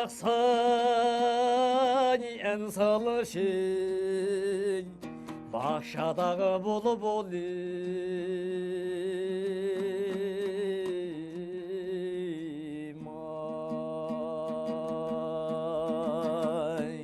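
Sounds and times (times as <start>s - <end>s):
lute strumming: 0.0s - 17.0s
man singing folk song: 0.0s - 17.0s.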